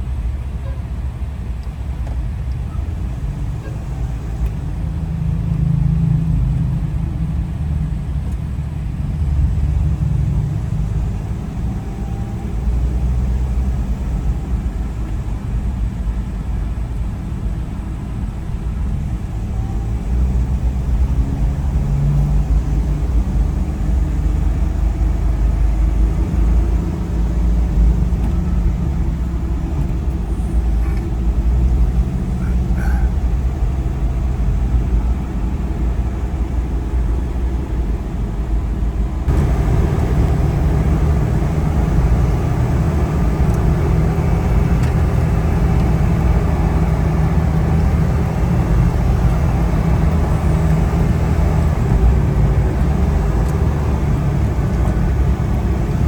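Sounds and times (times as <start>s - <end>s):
road noise: 0.0s - 56.0s
vehicle engine rumble: 0.0s - 56.0s.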